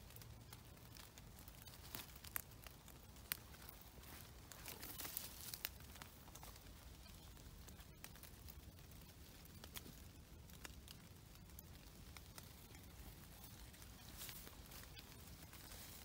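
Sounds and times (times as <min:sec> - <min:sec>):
rustling of wet leaf litter: 0:00.0 - 0:16.0.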